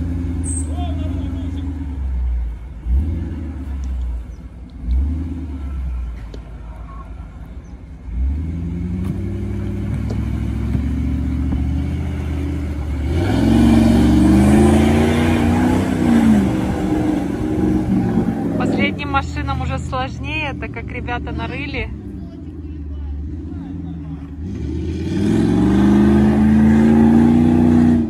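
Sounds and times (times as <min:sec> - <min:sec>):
engine revving: 0:00.0 - 0:06.4, 0:08.0 - 0:28.0
rush of mud and wheels: 0:00.0 - 0:28.0.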